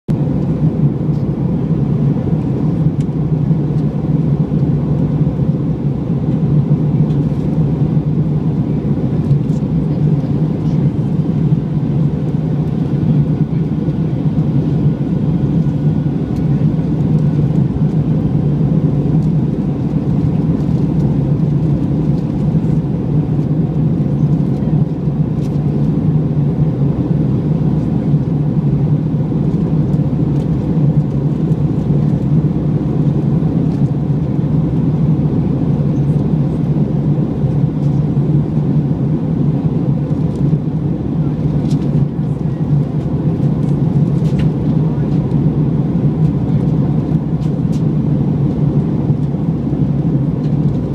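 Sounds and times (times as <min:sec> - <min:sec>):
aircraft cabin engine rumble: 0:00.1 - 0:50.9.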